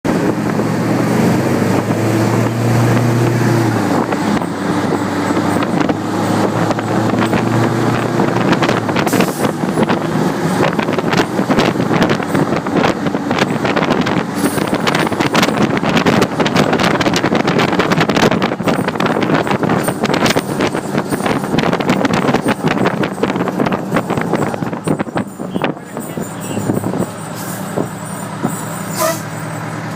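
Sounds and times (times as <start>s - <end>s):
rough vehicle noise: 0.0s - 29.9s
wind buffeting microphone: 0.1s - 28.7s.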